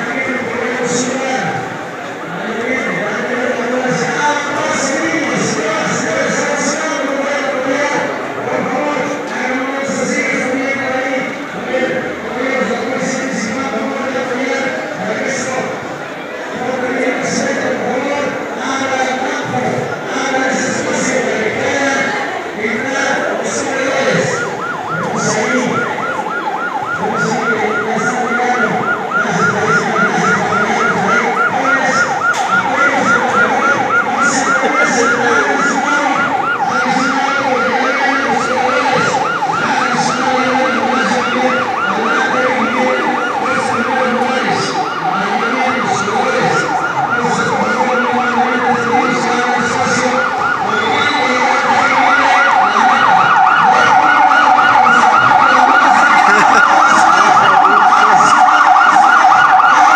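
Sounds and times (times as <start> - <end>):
ambulance siren yelping: 0.0 - 59.9.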